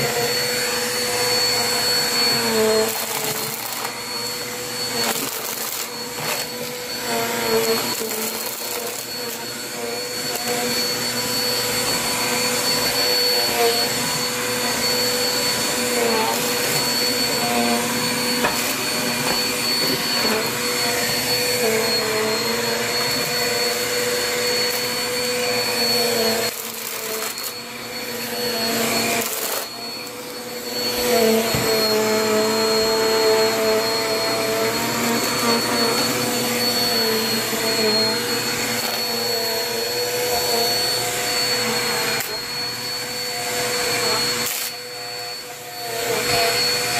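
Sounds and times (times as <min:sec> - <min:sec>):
upright vacuum cleaner running: 0:00.0 - 0:46.9.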